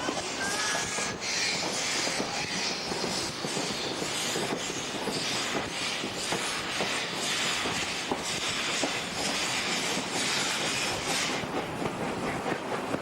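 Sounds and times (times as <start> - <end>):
train rushing on rails: 0.0 - 13.0.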